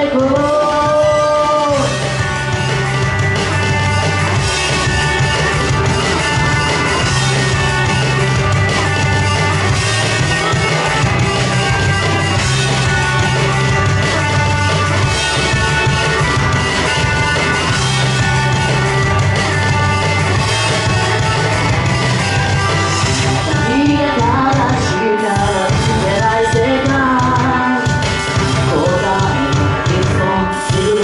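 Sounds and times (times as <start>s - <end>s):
rock backing track: 0.0s - 31.0s.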